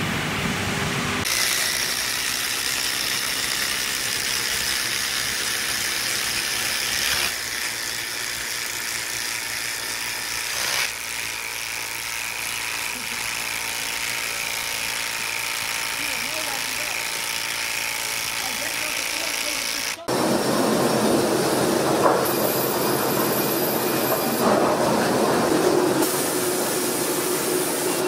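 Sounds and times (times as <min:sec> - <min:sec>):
wood-processing machinery running: 0:00.0 - 0:28.0.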